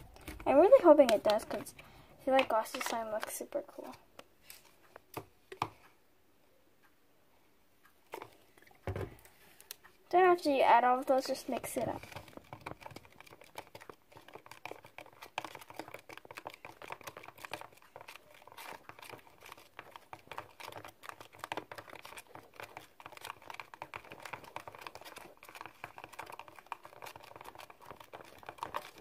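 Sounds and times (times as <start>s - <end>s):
slime stirring wet clicks: 0.0s - 4.3s, 9.6s - 29.0s.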